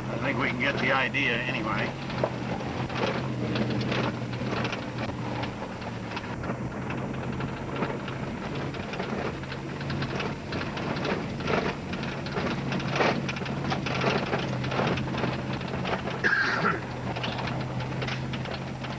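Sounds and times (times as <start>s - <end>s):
tire chains rattling and knocking: 0.0s - 18.9s
truck engine drone: 0.0s - 18.9s.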